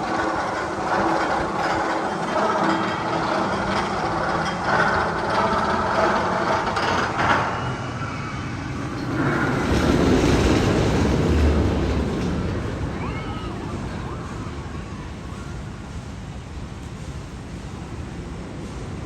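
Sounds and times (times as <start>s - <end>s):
roller coaster wheels rumbling on track: 0.0s - 19.0s.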